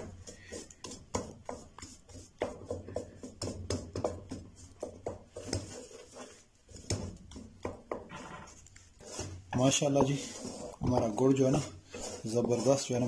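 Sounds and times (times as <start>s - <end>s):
wooden spatula scraping metal pan: 0.0s - 13.0s.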